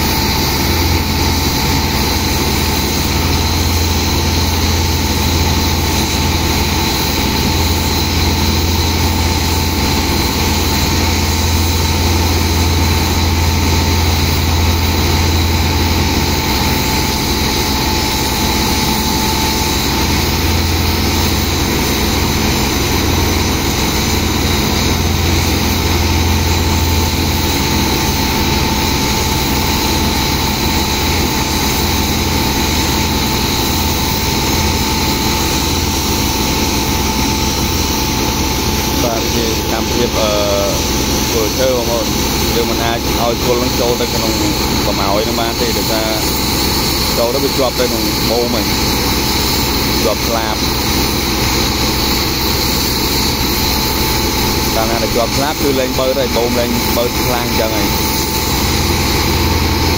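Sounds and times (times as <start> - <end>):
engine droning with whine: 0.0 - 59.9.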